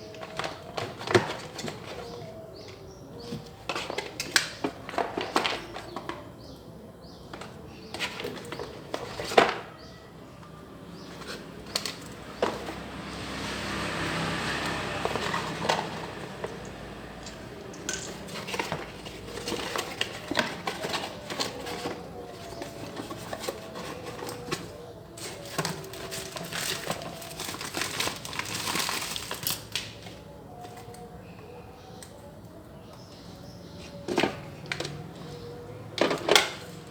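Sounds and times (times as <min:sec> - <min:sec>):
crinkling plastic and cardboard: 0:00.0 - 0:10.0, 0:10.9 - 0:31.4.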